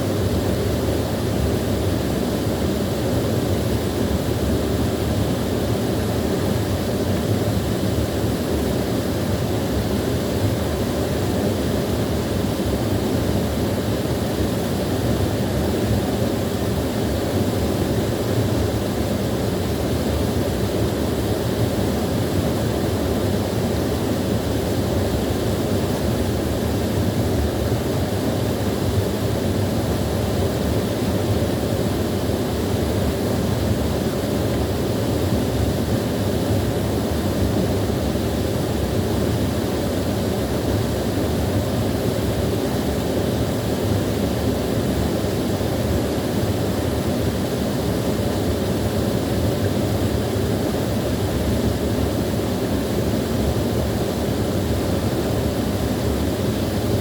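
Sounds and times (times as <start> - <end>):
small waterfall running: 0.0 - 57.0.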